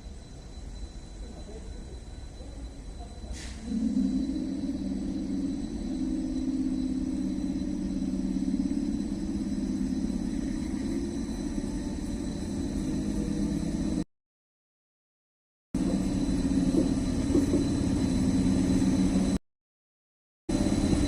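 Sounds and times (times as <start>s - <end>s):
electric train rumbling on track: 0.0s - 14.0s, 15.8s - 19.4s, 20.5s - 21.0s.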